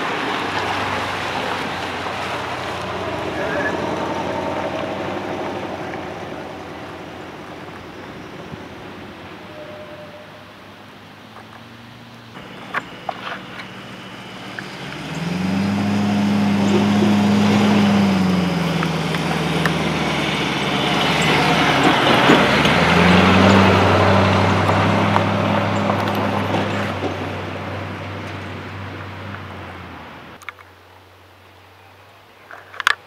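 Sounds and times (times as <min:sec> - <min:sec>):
tyres on gravel: 0:00.0 - 0:10.1, 0:10.8 - 0:30.8, 0:32.4 - 0:33.0
truck engine: 0:00.0 - 0:31.4.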